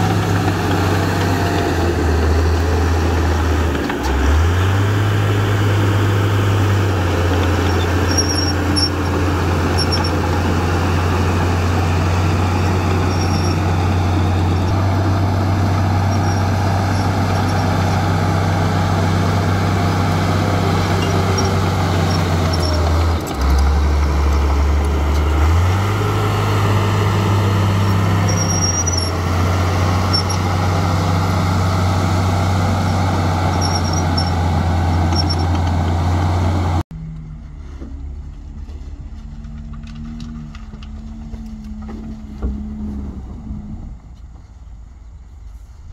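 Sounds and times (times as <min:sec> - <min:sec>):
bulldozer diesel engine under load: 0:00.0 - 0:45.9.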